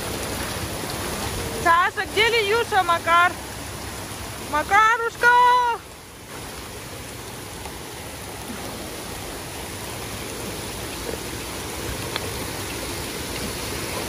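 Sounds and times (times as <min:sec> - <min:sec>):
water rushing into splash pool: 0:00.0 - 0:14.0.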